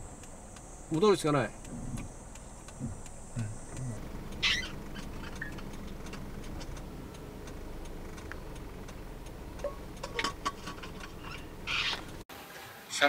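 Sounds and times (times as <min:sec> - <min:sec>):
car turn signal ticking: 0:00.0 - 0:12.2
engine humming: 0:00.0 - 0:12.3.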